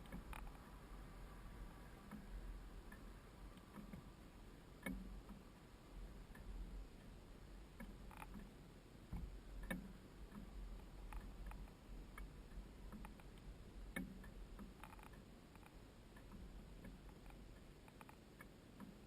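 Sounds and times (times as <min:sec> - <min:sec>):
faint clicks and knocks: 0:00.0 - 0:00.8, 0:02.0 - 0:19.0
low steady rumble: 0:00.0 - 0:19.0.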